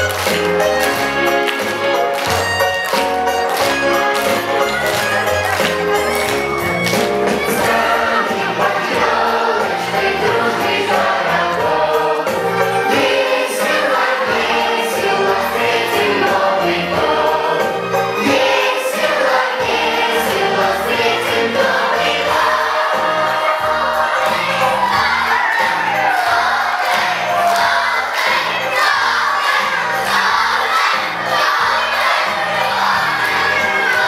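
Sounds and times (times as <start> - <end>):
children's choir singing: 0.0 - 34.0
instrumental accompaniment with bass: 0.0 - 34.0.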